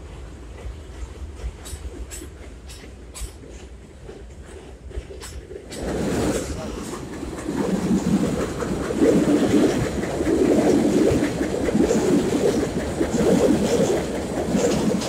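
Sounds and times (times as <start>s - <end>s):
train rumbling over viaduct: 0.0s - 15.0s
wheels clacking on rails: 0.0s - 15.0s.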